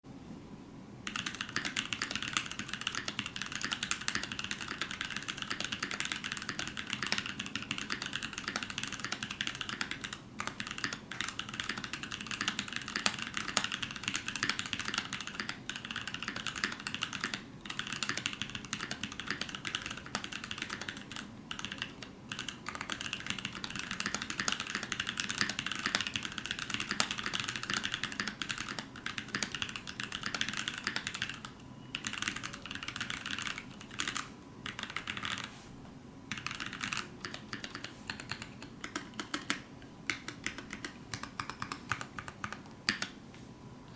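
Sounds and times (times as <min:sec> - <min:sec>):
mechanical keyboard typing: 0:01.1 - 0:35.5, 0:36.3 - 0:43.2.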